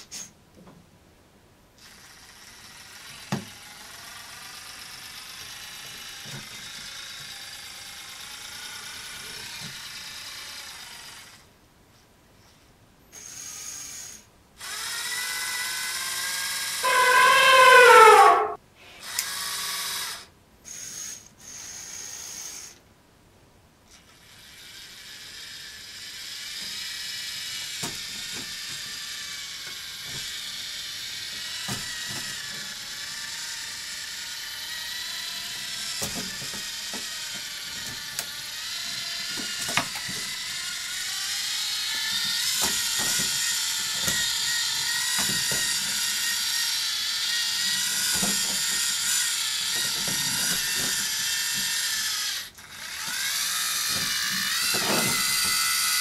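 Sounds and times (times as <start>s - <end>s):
motors and gears whirring: 1.8s - 11.5s, 13.1s - 22.8s, 24.0s - 56.0s.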